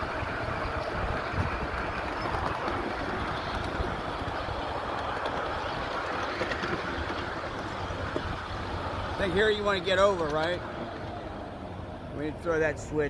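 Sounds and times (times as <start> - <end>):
miniature train wheels rumbling: 0.0 - 11.5.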